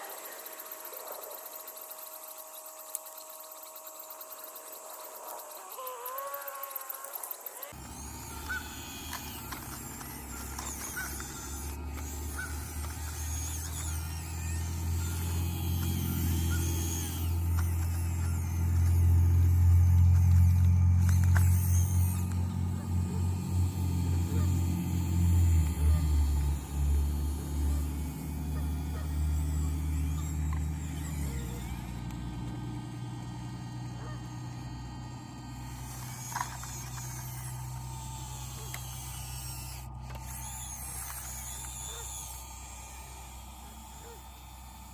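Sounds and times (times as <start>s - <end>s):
model excavator motor humming: 0.0s - 44.9s.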